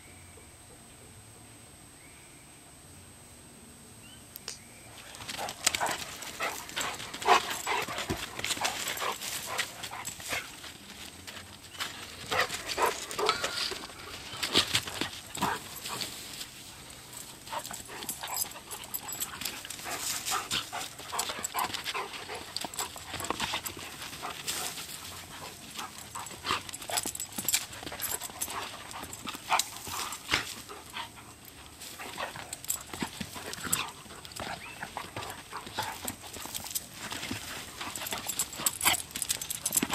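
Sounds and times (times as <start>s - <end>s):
dogs scuffling: 4.9s - 39.9s
dogs breathing: 5.1s - 39.9s.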